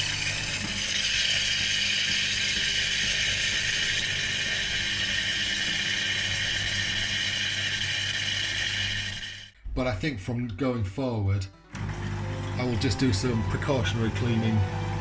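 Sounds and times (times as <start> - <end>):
espresso machine pump buzzing: 0.0 - 9.6, 11.8 - 15.0.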